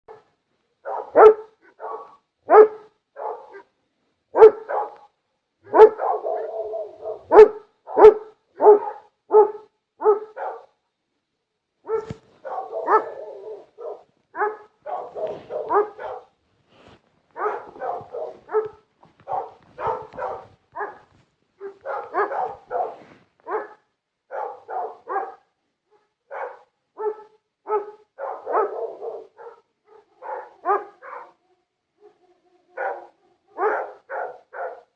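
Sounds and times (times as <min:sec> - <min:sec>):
dog barking: 0:00.1 - 0:10.8, 0:11.8 - 0:31.4, 0:32.0 - 0:34.9.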